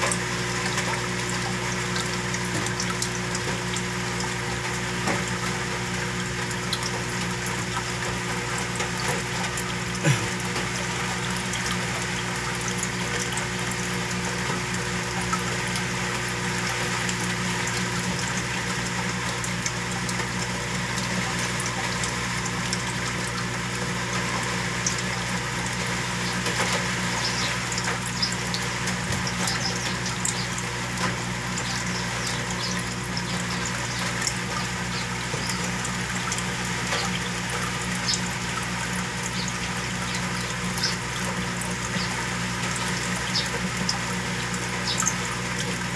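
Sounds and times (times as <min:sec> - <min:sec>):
low pump hum: 0:00.0 - 0:45.9.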